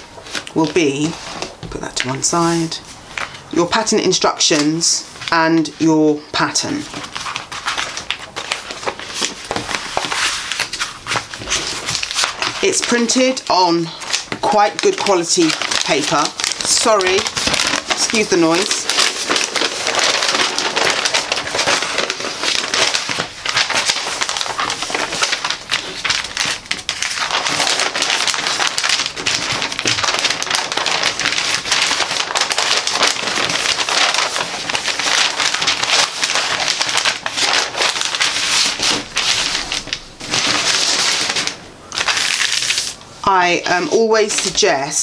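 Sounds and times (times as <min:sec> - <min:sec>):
paper crinkling and rustling: 0:00.0 - 0:44.8.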